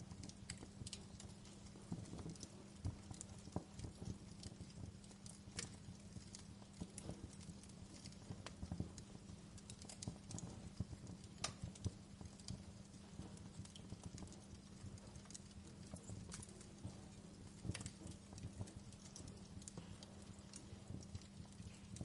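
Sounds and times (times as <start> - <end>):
low steady rumble: 0.0 - 22.0
sharp fire snap: 0.0 - 22.0
wood fire crackling: 0.0 - 22.0.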